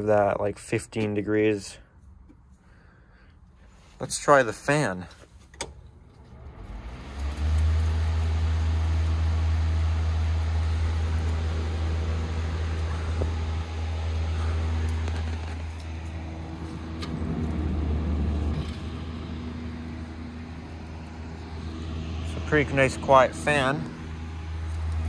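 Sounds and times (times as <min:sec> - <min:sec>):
ventilation fan humming: 0:00.0 - 0:25.0.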